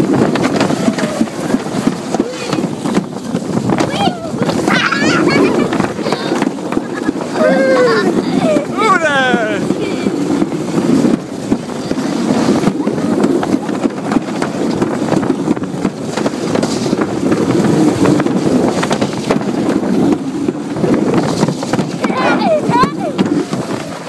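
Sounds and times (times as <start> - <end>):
sled rumbling down track: 0.0 - 24.0
wind buffeting microphone: 0.0 - 24.0.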